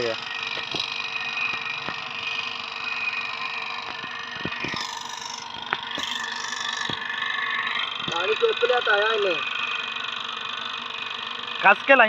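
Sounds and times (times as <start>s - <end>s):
water pump drone: 0.0s - 12.0s.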